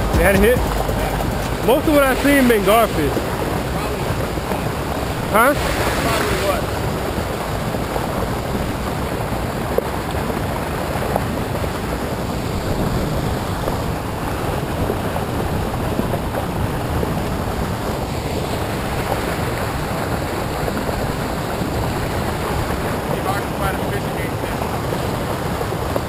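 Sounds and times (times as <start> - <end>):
turbulent water rushing: 0.0 - 26.0.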